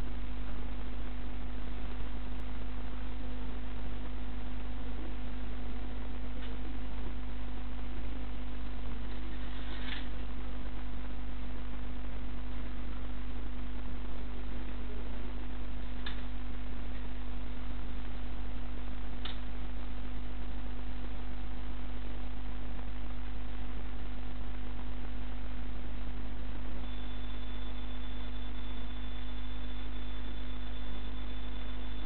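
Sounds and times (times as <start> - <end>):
electrical mains hum with hiss: 0.0 - 32.0.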